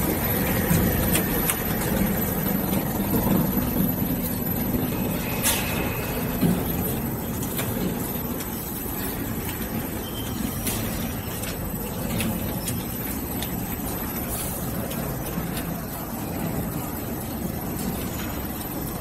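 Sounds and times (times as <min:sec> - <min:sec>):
rotating drum mechanical rumble: 0:00.0 - 0:19.0.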